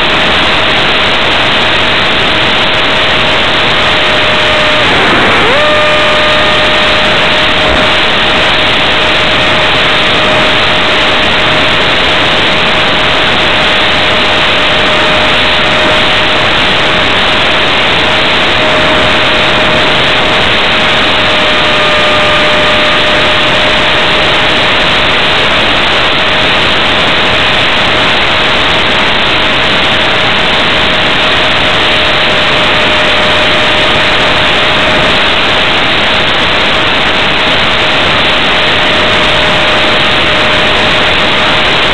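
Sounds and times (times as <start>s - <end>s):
air rushing over microphone: 0.0s - 41.9s
electric motor whine: 0.0s - 41.9s.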